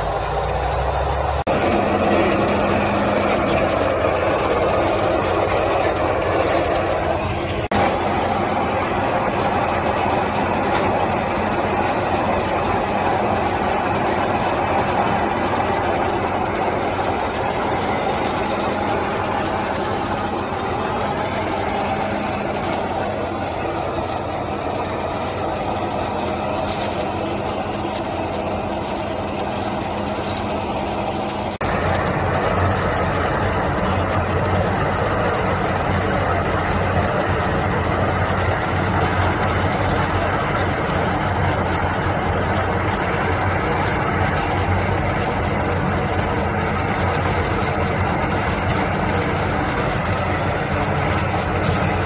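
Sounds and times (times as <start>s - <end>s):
machine hum: 0.0s - 52.0s.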